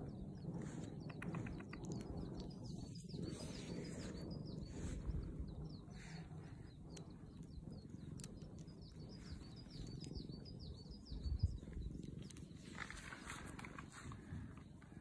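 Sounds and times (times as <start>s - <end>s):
low steady rumble: 0.0s - 15.0s
bird chirping: 0.1s - 14.8s.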